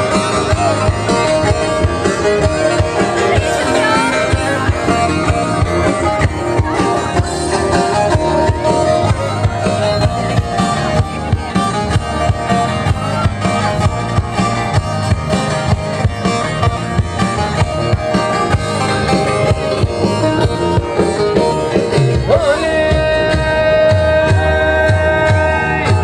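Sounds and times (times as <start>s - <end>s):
even drum beat: 0.0s - 26.0s
folk dance music: 0.0s - 26.0s
string and keyboard melody: 0.0s - 26.0s.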